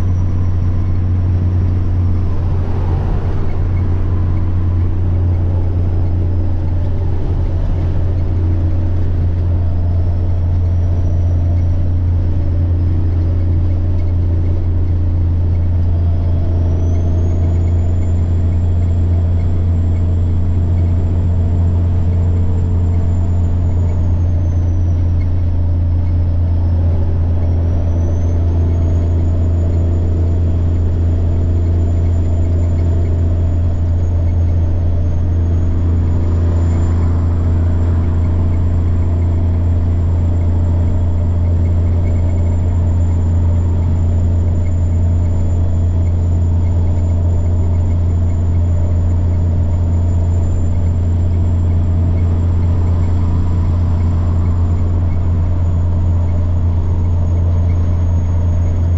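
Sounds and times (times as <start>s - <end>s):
truck diesel engine drone: 0.0s - 58.9s
turbocharger whine: 0.0s - 58.9s.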